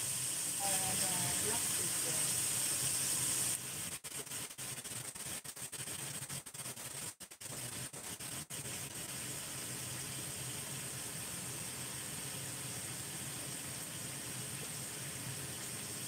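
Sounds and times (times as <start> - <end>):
beef sizzling in a wok: 0.0 - 5.7, 7.5 - 16.0.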